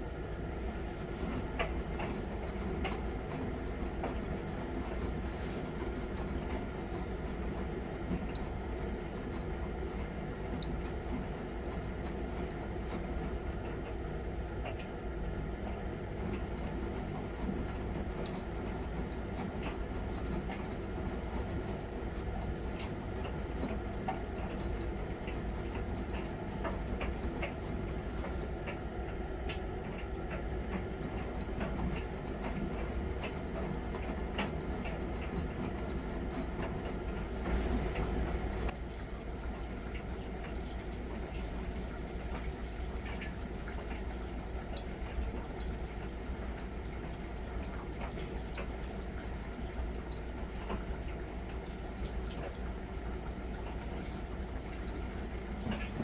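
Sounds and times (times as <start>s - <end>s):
washing machine rumbling: 0.0s - 56.0s.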